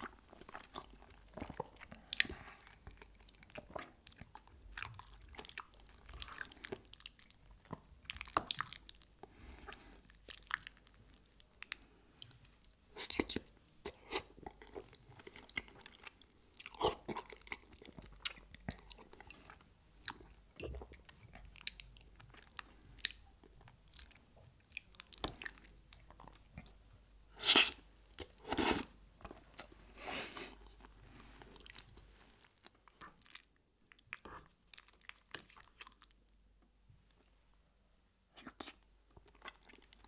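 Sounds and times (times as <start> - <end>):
chewing and wet mouth sounds: 0.0 - 29.8, 30.4 - 37.4, 38.4 - 40.0.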